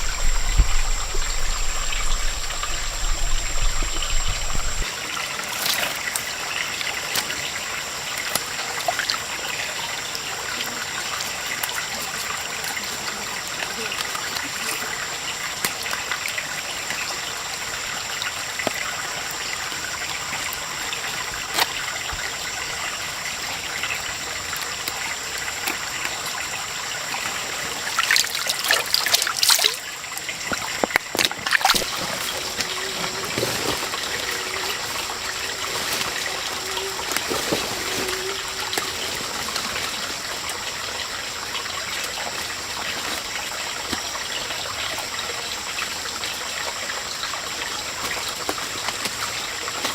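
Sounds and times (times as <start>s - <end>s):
water trickling: 0.0s - 49.9s.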